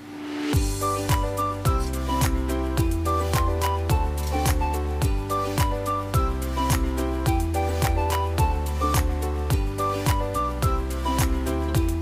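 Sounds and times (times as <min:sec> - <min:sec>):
background music with drum beat: 0:00.6 - 0:12.0.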